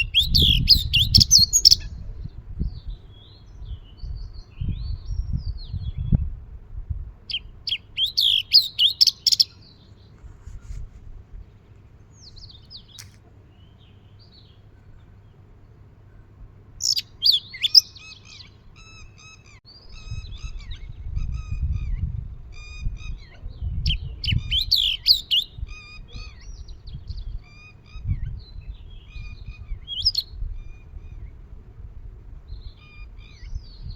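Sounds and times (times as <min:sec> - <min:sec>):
sparrows chirping: 0:00.0 - 0:06.2, 0:07.3 - 0:31.6, 0:32.2 - 0:33.9.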